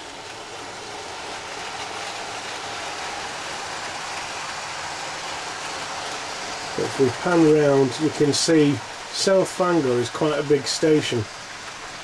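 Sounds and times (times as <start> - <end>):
model train whirring on track: 0.0 - 12.0.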